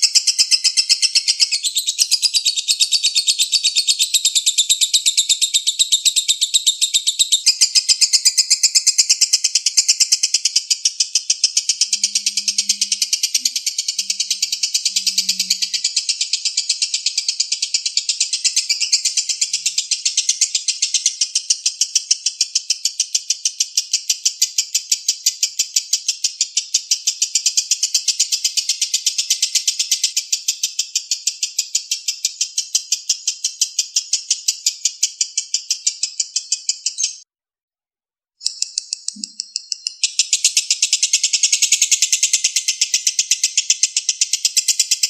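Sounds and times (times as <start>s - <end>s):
lovebird rapid high-pitched chatter: 0.0s - 37.3s, 38.4s - 45.0s.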